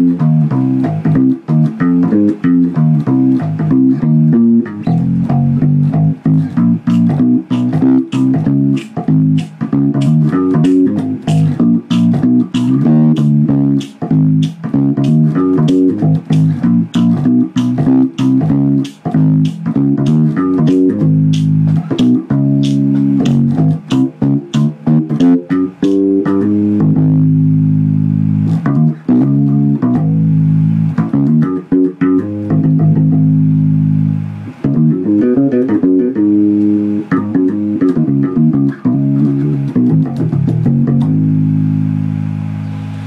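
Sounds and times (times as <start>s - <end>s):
electric bass guitar: 0.0s - 43.0s.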